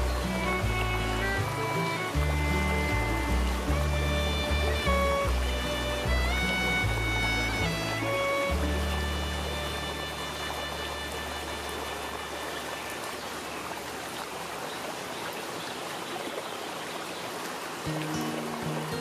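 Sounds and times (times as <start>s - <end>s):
water noise: 0.0s - 19.0s.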